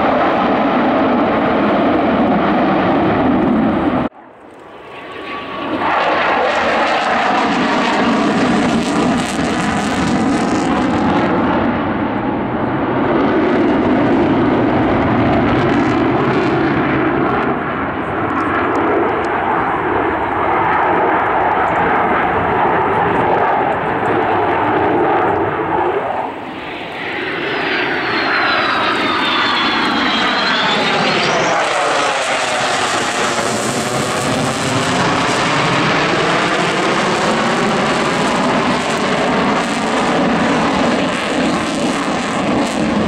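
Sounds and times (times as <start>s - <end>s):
high jet engine whine: 0.0s - 43.0s
jet engine roar: 0.0s - 43.0s.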